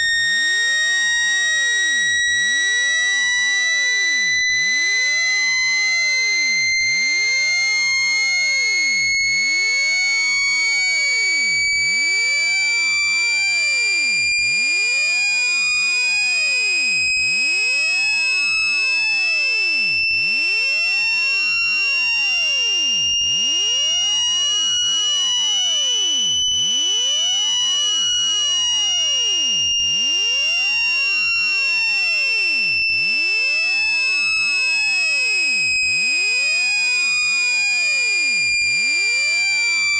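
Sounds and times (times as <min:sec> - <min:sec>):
electronic whistle tone: 0:00.0 - 0:39.9.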